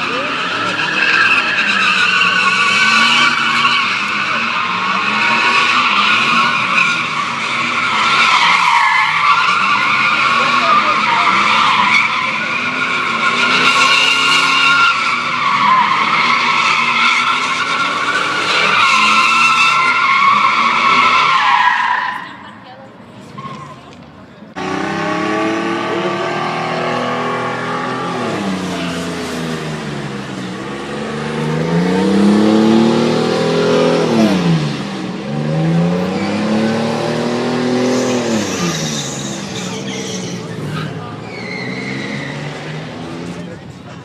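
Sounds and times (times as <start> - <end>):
truck tyres squealing: 0.0 - 44.0.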